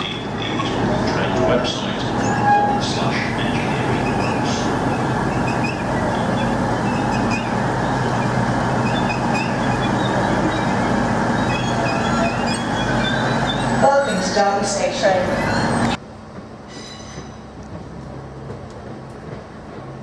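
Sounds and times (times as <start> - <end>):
freight train rolling past: 0.0 - 20.0
wheels on rail: 0.0 - 20.0.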